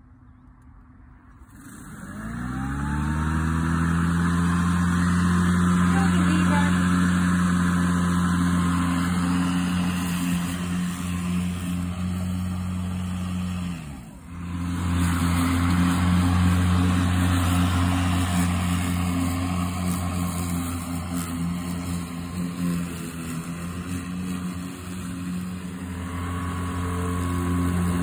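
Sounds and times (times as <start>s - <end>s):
electric lawnmower humming: 1.2s - 28.0s.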